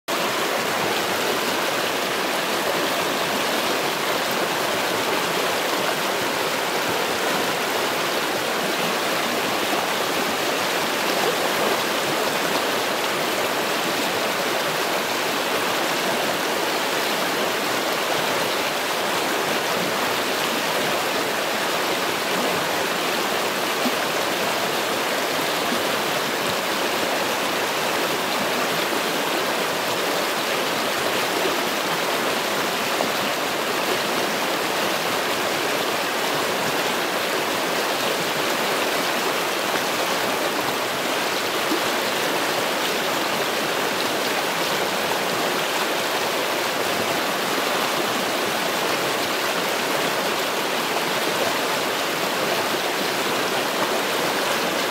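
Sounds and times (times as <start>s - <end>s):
stream rushing over rocks: 0.1s - 54.9s.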